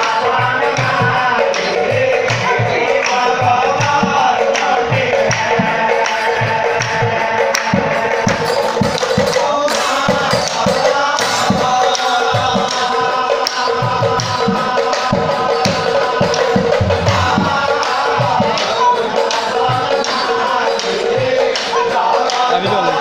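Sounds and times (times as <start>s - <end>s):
drums beating: 0.0s - 23.0s
men chanting together: 0.0s - 23.0s.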